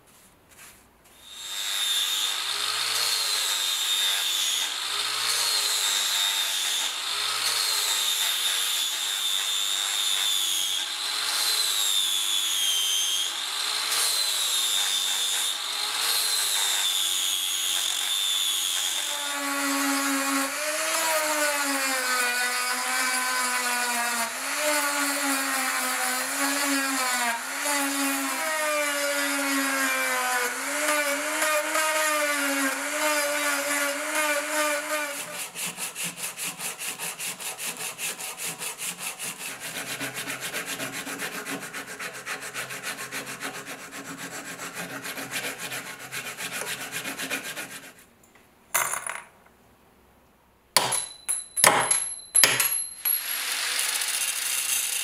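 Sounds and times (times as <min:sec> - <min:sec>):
angle grinder sanding wood: 0:01.2 - 0:48.0.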